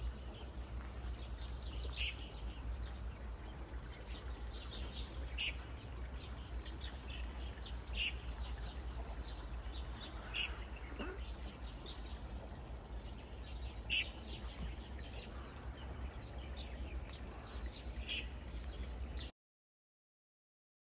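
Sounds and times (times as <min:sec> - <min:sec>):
pulsing insect trill: 0:00.0 - 0:19.3.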